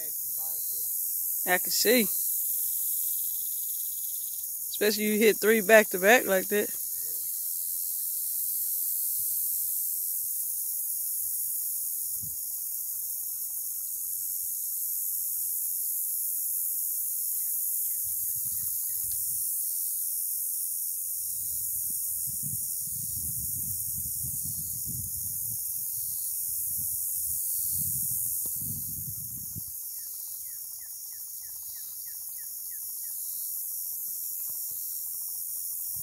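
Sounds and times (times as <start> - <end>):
high-pitched hiss: 0.0 - 36.0.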